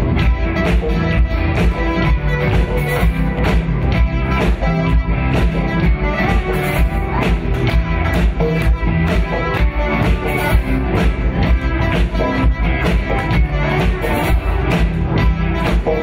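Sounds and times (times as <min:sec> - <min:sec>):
pop-rock band playing: 0:00.0 - 0:16.0.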